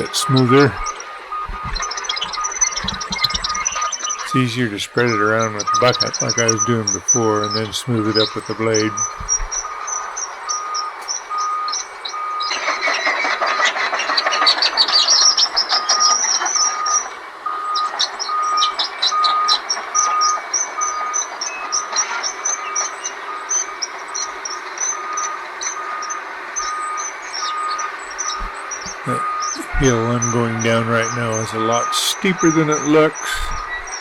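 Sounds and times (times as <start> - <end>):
backup alarm beeping: 0.0 - 14.4, 15.7 - 34.0.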